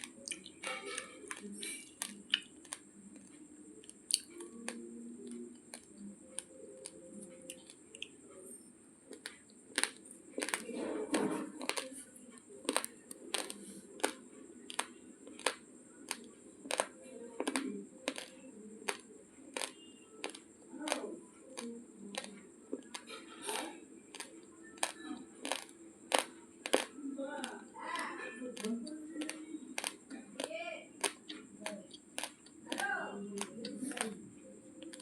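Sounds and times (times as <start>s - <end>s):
crunchy rice chewing: 0.0s - 8.2s, 9.1s - 34.2s, 34.8s - 35.0s.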